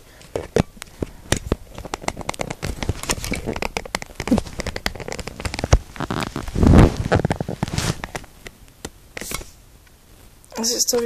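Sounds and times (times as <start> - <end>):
phone handling clicks and scrapes: 0.0 - 9.6.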